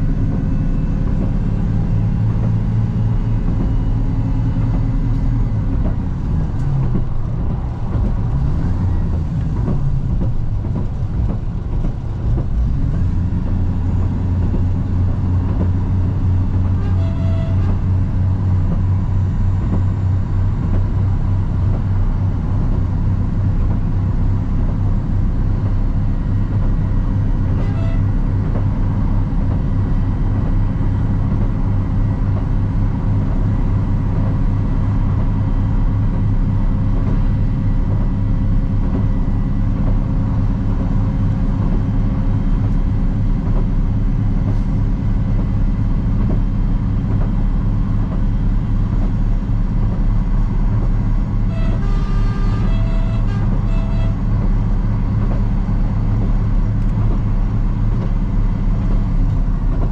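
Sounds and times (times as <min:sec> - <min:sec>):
rail noise: 0:00.0 - 0:59.9
railcar engine drone: 0:00.0 - 0:59.9
steady hum tones: 0:00.0 - 0:59.9.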